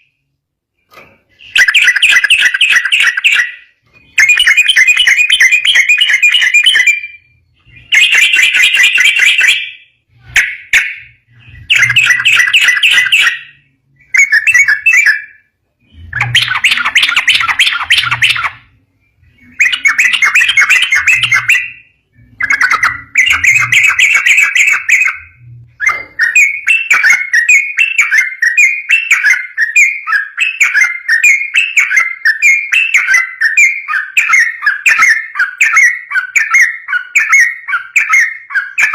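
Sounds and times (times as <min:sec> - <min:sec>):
bird chattering song: 0:01.3 - 0:38.9.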